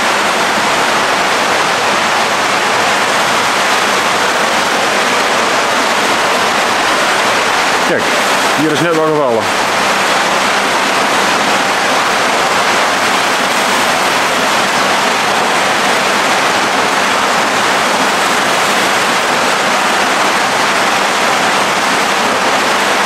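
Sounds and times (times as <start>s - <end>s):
water rushing and splashing: 0.0s - 23.0s.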